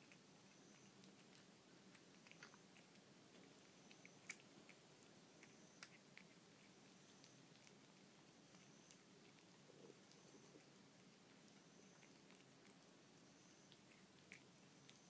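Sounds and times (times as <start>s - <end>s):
cat chewing and lapping food: 0.0s - 15.0s.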